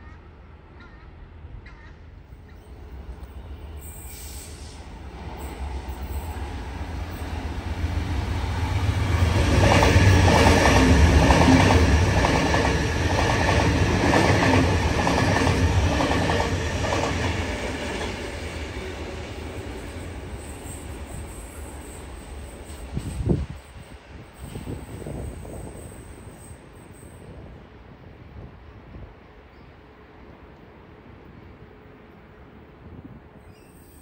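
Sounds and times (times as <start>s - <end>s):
low steady train hum: 0.0s - 34.0s.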